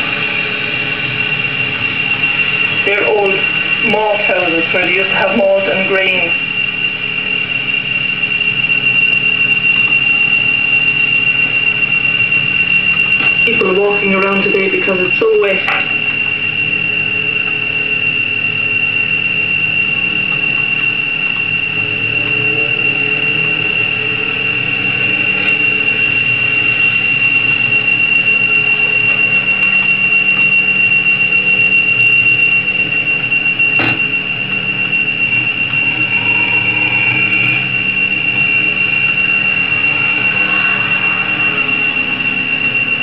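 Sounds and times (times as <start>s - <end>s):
high-pitched whine: 0.0s - 43.0s.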